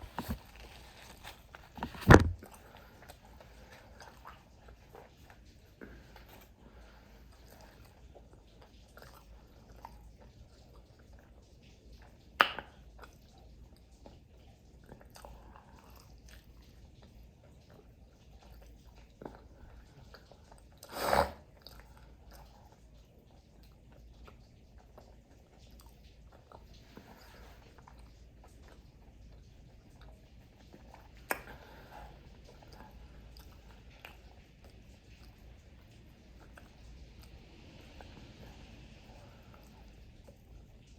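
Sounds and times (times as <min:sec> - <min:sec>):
person chewing food: 0:00.0 - 0:40.4.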